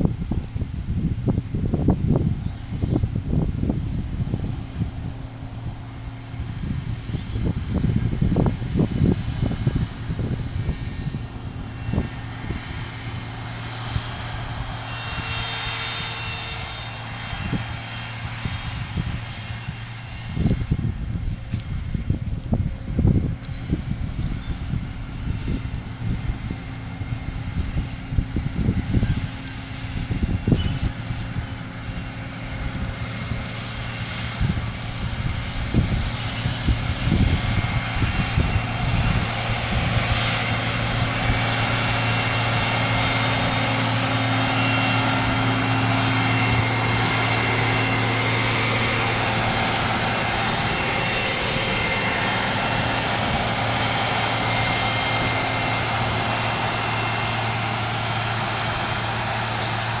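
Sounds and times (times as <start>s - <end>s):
diesel engine driving past: 0.0s - 60.0s
wind buffeting microphone: 0.0s - 60.0s.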